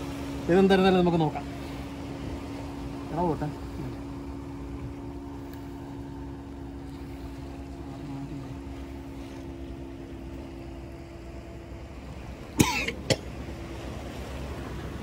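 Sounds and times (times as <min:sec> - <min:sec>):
motor humming over low rumble: 0:00.0 - 0:15.0.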